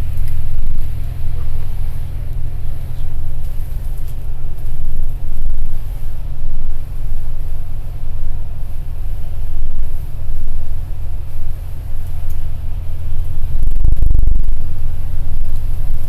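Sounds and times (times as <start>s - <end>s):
bus rumble from inside: 0.0s - 16.0s
heavy rain and road spray: 0.0s - 16.0s.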